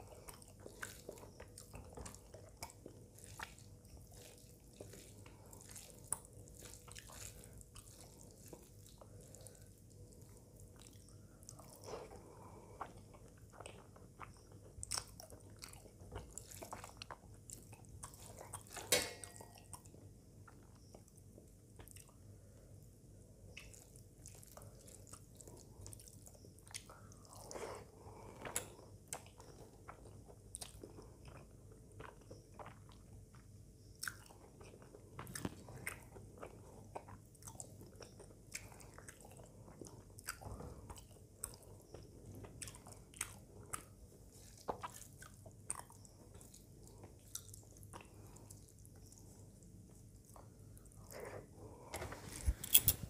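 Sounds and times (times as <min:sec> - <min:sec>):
person chewing: 0:00.0 - 0:21.1, 0:23.5 - 0:53.0.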